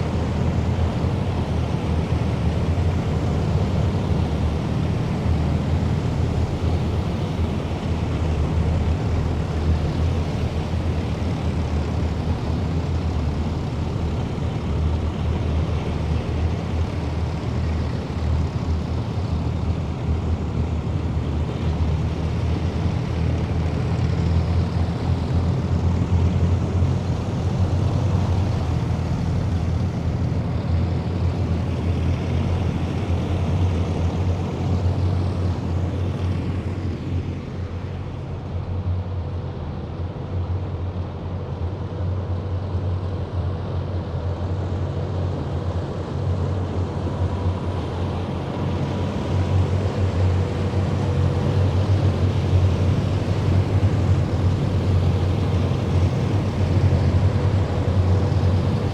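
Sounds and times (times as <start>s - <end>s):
heavy vehicles diesel rumble: 0.0s - 58.9s.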